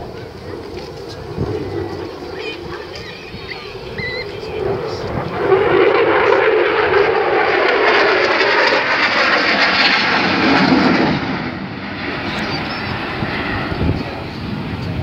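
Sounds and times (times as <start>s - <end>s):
fighter jet flying past: 0.0s - 15.0s.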